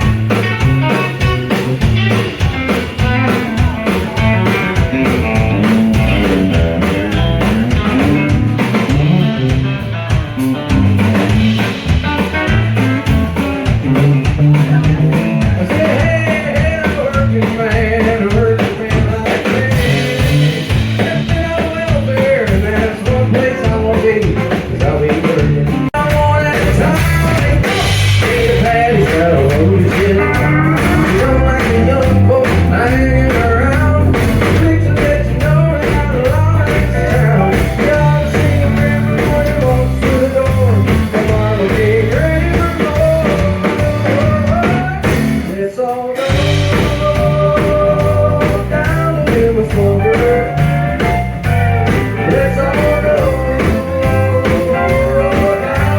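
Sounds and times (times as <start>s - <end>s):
person singing: 0.0s - 55.9s
rock and roll music: 0.0s - 55.9s.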